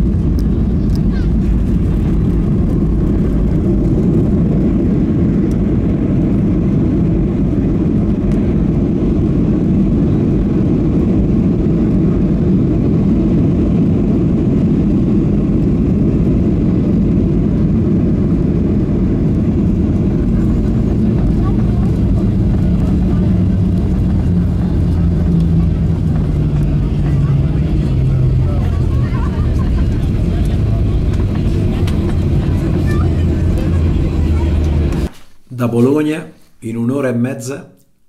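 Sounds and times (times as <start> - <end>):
jet engines and wheels rumbling: 0.0 - 36.2.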